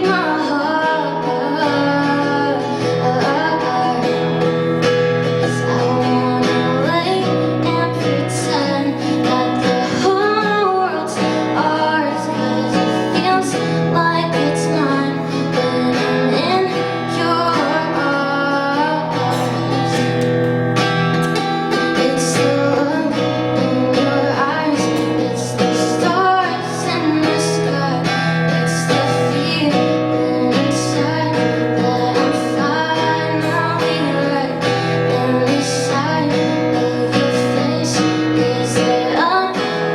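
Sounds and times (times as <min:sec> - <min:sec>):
acoustic guitar: 0:00.0 - 0:39.9
woman singing: 0:00.0 - 0:39.9.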